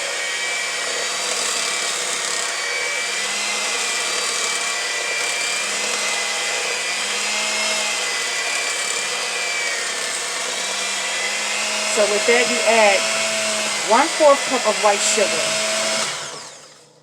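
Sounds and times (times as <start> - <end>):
electric mixer running: 0.0 - 17.0.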